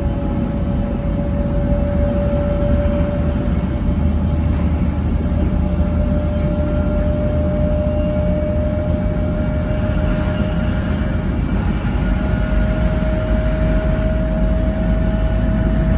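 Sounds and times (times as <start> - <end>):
steady whine: 0.0 - 15.9
train running at speed: 0.0 - 15.9.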